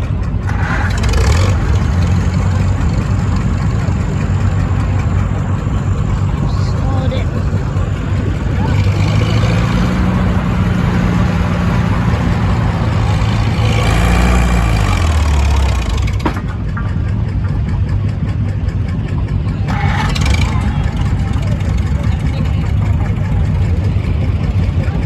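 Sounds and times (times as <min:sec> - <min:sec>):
tractor engine running hard: 0:00.0 - 0:25.0.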